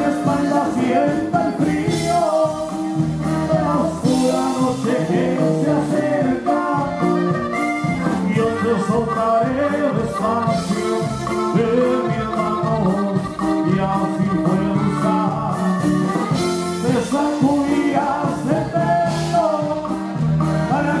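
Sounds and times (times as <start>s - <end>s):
accordion melody: 0.0s - 21.0s
bajo sexto: 0.0s - 21.0s
congas: 0.0s - 21.0s
drums: 0.0s - 21.0s.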